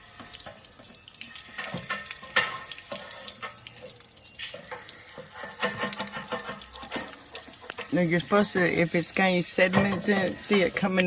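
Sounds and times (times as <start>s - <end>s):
water splashing and pouring: 0.0s - 11.0s.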